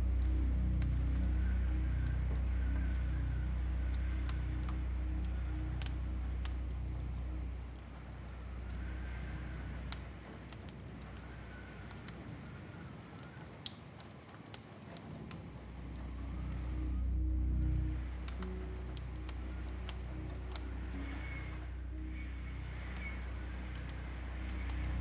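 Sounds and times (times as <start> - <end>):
low soft drone: 0.0 - 11.7, 15.7 - 25.0
fireplace crackling: 0.0 - 25.0.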